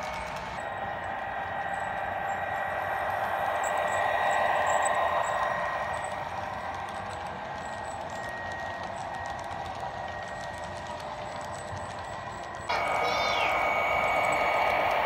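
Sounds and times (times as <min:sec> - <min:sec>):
model train diesel engine sound: 0:00.0 - 0:15.0
model train motors whirring: 0:00.0 - 0:15.0
wheels rolling on track: 0:00.0 - 0:15.0.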